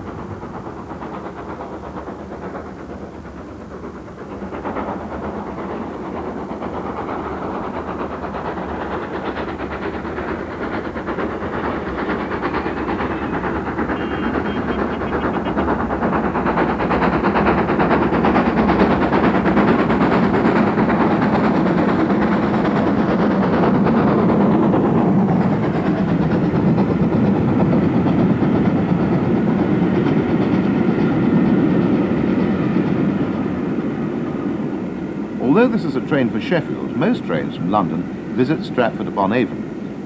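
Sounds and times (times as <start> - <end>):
steam locomotive exhaust beating fast: 0.0 - 40.0
train wheels rumbling on rails: 0.0 - 40.0.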